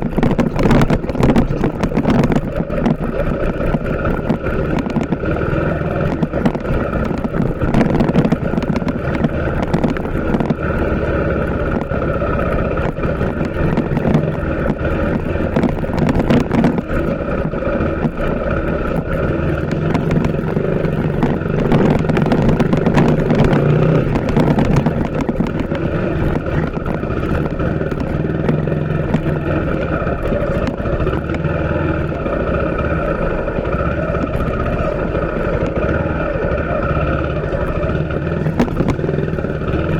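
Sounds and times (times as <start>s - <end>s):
motorcycle engine running: 0.0s - 39.9s
riding wind rush: 0.0s - 39.9s.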